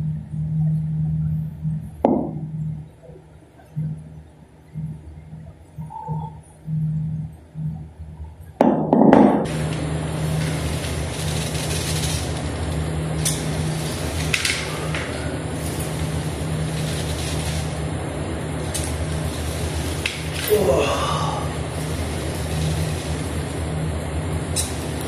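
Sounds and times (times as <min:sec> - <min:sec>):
mechanical hum with rushing noise: 0:00.0 - 0:25.0.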